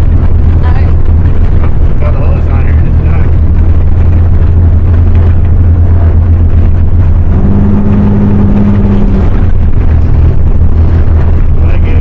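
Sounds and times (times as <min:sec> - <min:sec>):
higher steady hum: 0:00.0 - 0:12.0
low engine drone: 0:00.0 - 0:12.0.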